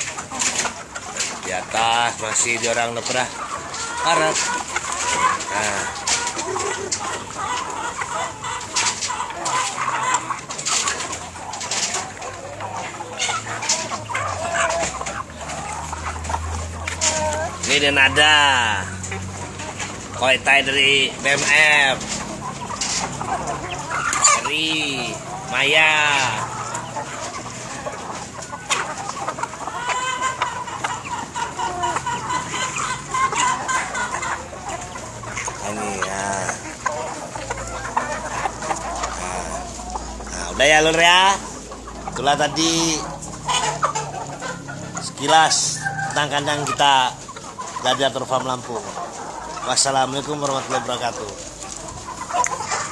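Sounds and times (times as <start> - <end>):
hens clucking: 0.0 - 52.9.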